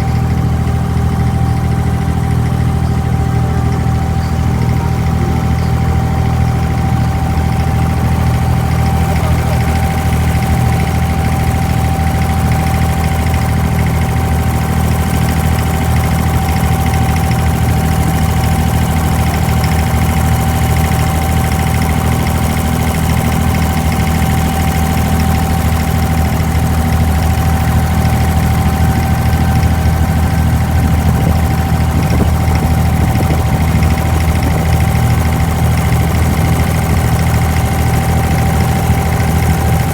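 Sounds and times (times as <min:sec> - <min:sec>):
boat diesel engine droning: 0:00.0 - 0:39.9.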